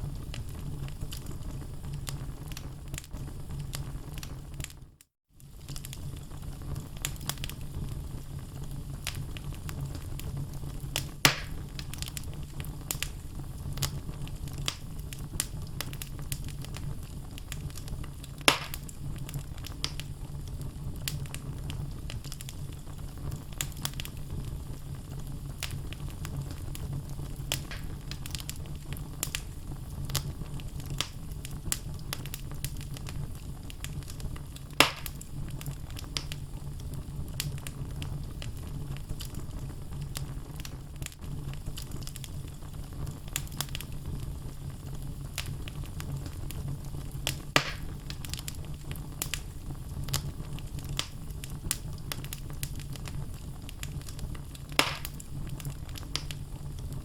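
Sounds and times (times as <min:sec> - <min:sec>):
fire rumbling and crackling: 0:00.0 - 0:57.0
loud fire pops: 0:00.0 - 0:57.0.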